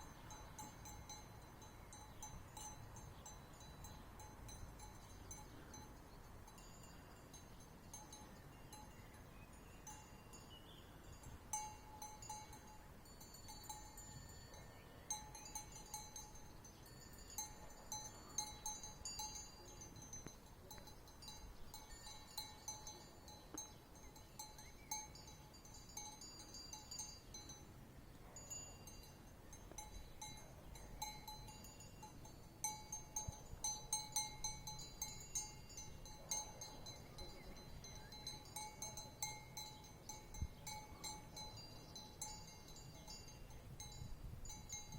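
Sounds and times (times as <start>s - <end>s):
sheep bells clinking: 0.0s - 44.9s.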